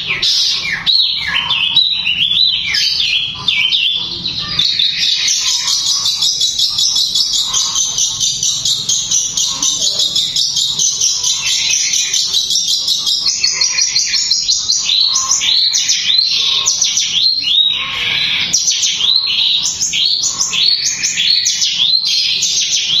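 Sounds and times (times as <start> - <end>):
bird singing: 0.0 - 23.0.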